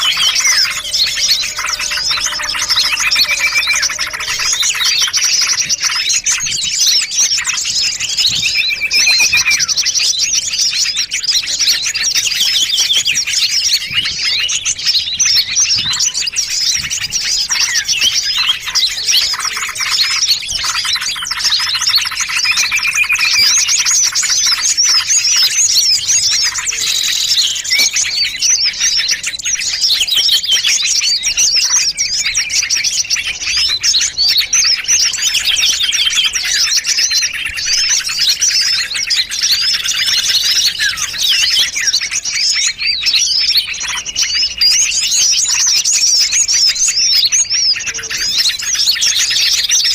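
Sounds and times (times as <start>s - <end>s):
bird whistles: 0.0s - 49.9s
songbirds chirping and trilling: 0.0s - 49.9s.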